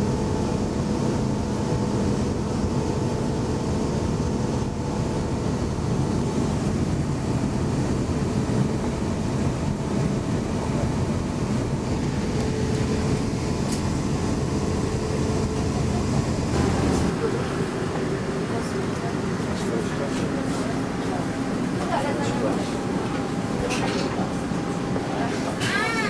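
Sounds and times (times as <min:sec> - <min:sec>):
aircraft cabin noise: 0:00.0 - 0:26.0
faint engine hum: 0:00.0 - 0:26.0.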